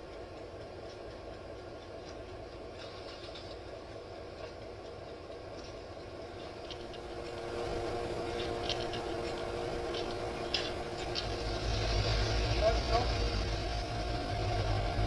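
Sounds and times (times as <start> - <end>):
model locomotive motor hum: 0.0 - 15.0
wheels clicking over rails: 0.0 - 15.0.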